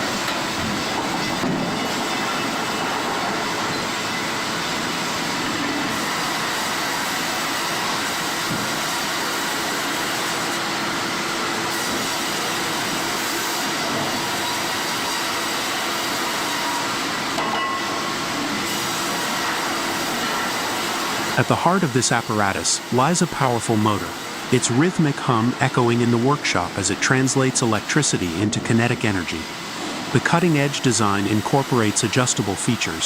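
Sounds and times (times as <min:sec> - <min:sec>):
sawmill machinery running: 0:00.0 - 0:33.0.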